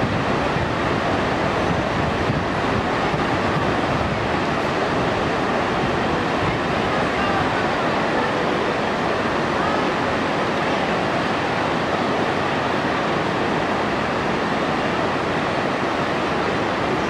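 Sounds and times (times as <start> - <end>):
river water rushing over rapids: 0.0 - 17.0.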